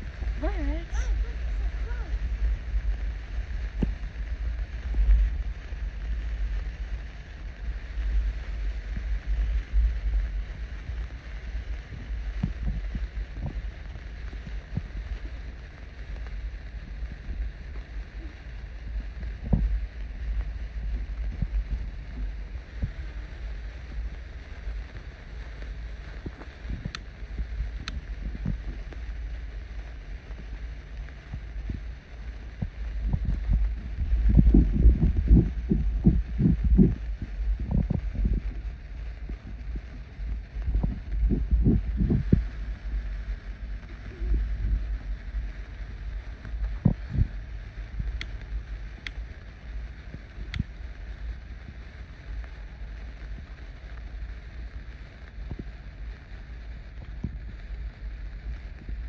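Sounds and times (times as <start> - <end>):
wind buffeting microphone: 0.0 - 15.5, 16.7 - 24.8, 25.8 - 30.6, 31.2 - 52.0
faint crackles: 0.0 - 59.0
low rumble: 0.0 - 59.0
sparklers fizzing: 0.0 - 59.0.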